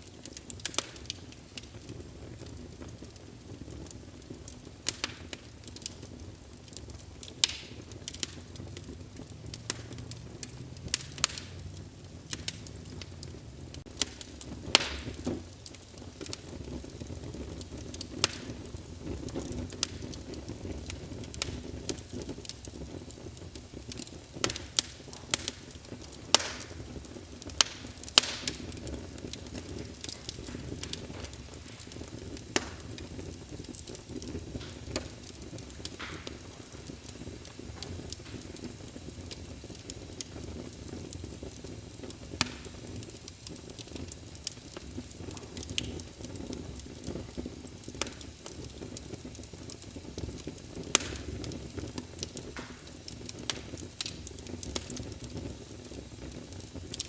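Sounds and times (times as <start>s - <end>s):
low rumble of burning logs: 0.0s - 57.0s
wood fire crackling and popping: 0.0s - 57.0s.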